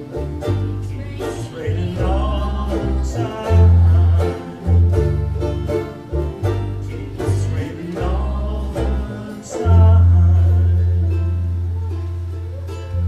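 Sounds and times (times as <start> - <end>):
voices singing: 0.0 - 11.4
low bass notes: 0.0 - 13.0
ukuleles strumming: 0.0 - 13.0.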